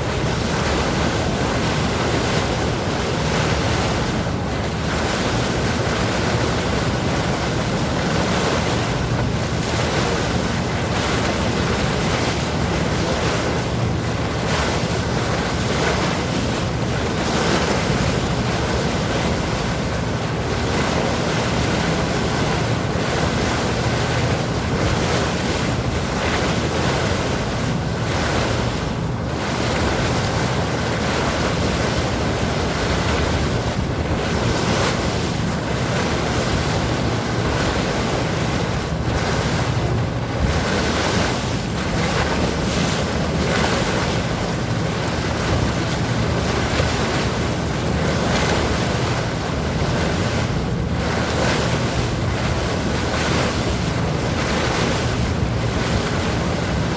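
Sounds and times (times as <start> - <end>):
sea water splashing against boat: 0.0 - 56.9
wind buffeting microphone: 0.0 - 56.9.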